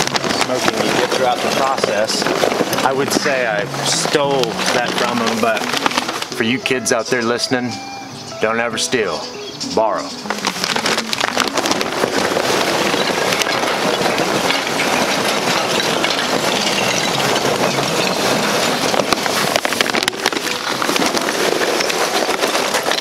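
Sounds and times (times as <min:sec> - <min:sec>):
charcoal clattering into metal basket: 0:00.0 - 0:06.5, 0:10.2 - 0:23.0.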